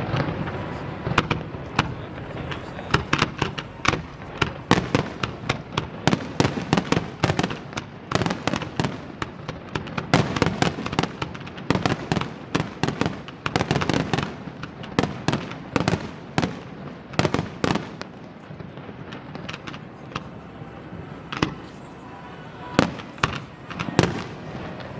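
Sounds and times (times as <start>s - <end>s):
fireworks bursting and crackling: 0.0s - 24.9s.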